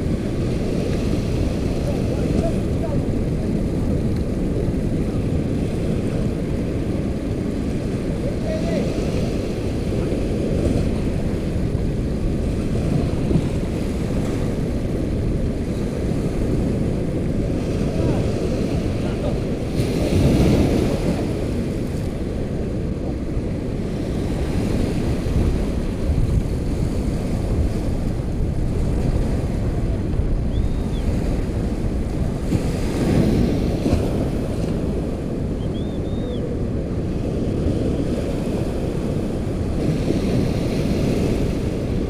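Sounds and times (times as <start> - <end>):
small waves washing up sand: 0.0 - 35.6, 36.3 - 42.0
wind buffeting microphone: 0.0 - 42.0.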